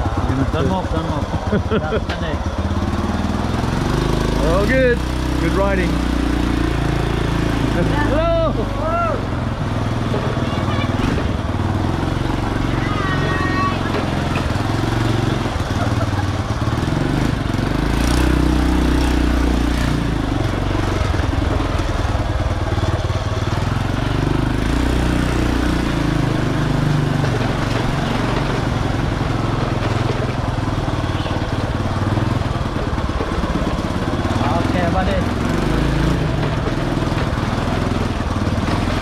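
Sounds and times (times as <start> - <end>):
scooter engine running: 0.0 - 39.0
wind and road noise: 0.0 - 39.0.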